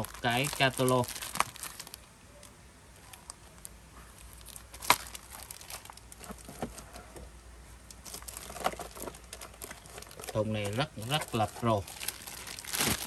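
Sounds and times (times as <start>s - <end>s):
packaging and paper rustling: 0.0s - 2.0s, 3.0s - 7.1s, 8.0s - 13.0s.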